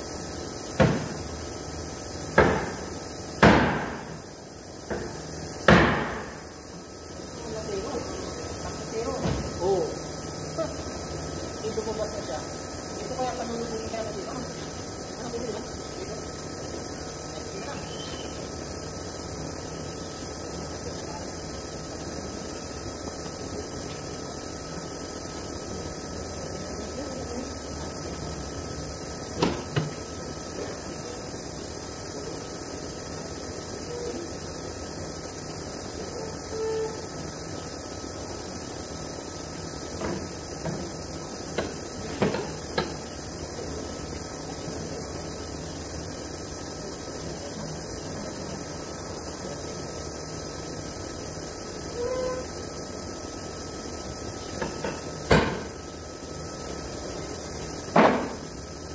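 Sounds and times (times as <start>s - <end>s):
workshop hum and hiss: 0.0s - 58.9s.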